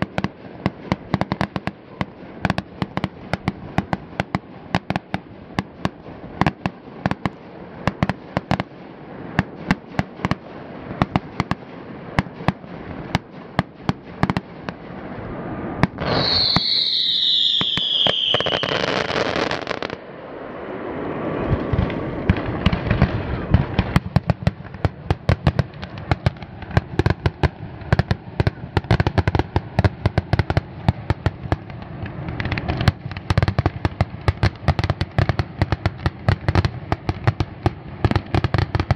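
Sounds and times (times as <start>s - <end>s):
fireworks bangs and pops: 0.0s - 15.0s, 15.8s - 20.0s, 21.5s - 38.9s
whistling firework: 0.0s - 38.9s.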